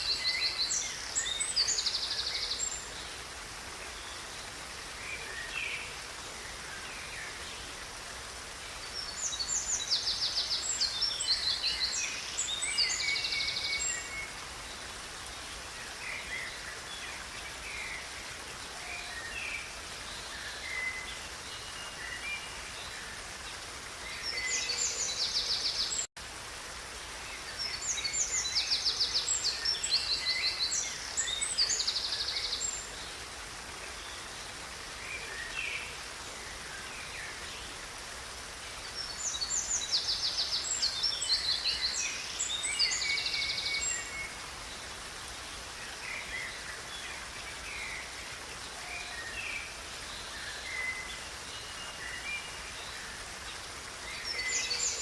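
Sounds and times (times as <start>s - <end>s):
songbirds singing: 0.0s - 26.1s, 27.1s - 55.0s
river water rushing: 0.0s - 55.0s.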